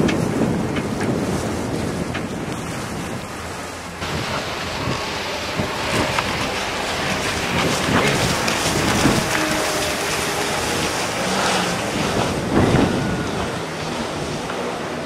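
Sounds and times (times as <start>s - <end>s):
water washing along hull: 0.0s - 15.0s
wind buffeting microphone: 0.0s - 15.0s.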